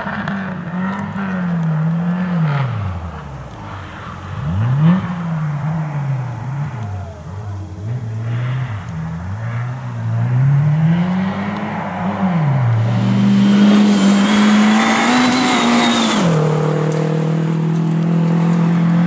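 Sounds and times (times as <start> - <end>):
car accelerating past: 0.0 - 19.0
rally car engines revving: 0.0 - 19.0.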